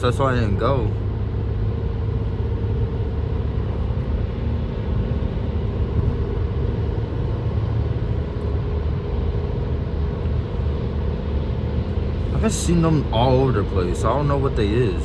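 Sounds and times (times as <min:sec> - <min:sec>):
car cabin road drone: 0:00.0 - 0:15.0
faint steady hum: 0:00.0 - 0:15.0.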